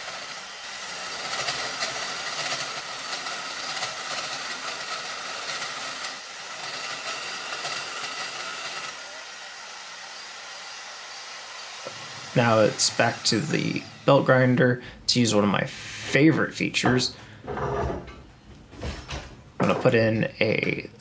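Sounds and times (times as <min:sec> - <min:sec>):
belt grinder grinding steel: 0:00.0 - 0:18.2
grinder humming: 0:00.0 - 0:20.9.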